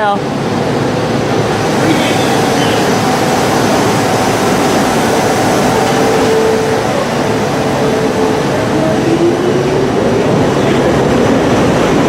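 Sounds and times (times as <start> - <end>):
electric train rushing: 0.0 - 12.0.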